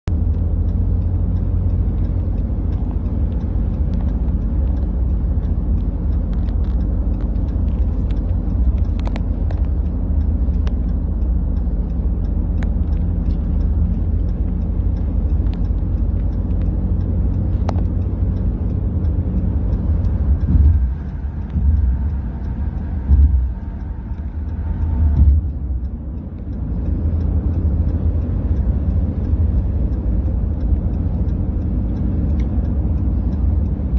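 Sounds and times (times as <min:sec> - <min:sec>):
engines and road noise rumble: 0:00.0 - 0:33.9.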